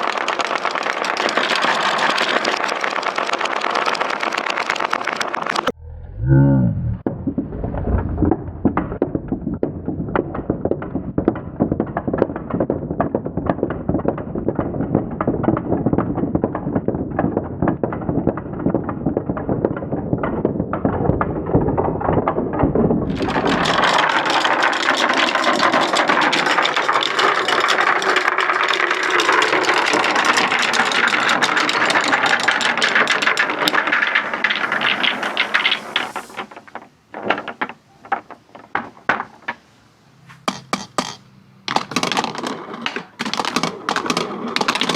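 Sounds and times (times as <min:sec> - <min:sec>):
marbles clattering down wooden ramps: 0:00.0 - 0:05.8, 0:07.2 - 0:39.6, 0:40.5 - 0:44.9.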